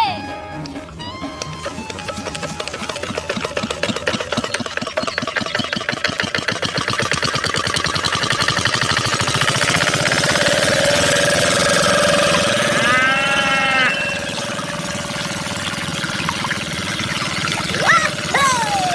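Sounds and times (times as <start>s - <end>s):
tractor engine chugging: 0.1s - 18.9s.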